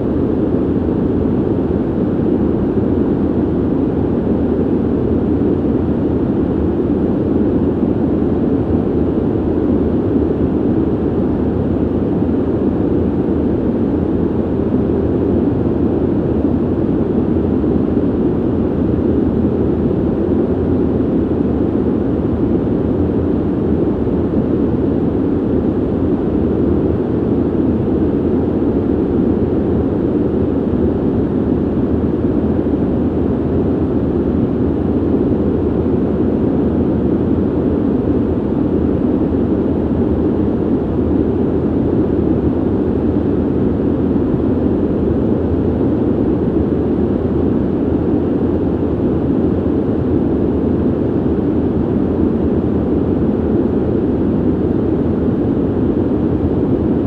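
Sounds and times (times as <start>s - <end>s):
ventilation airflow rushing: 0.0s - 57.0s.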